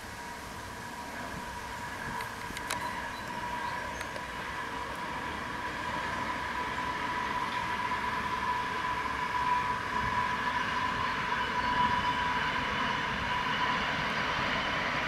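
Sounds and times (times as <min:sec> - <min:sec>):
electric train rolling past: 0:00.0 - 0:15.0
high whine: 0:00.0 - 0:15.0.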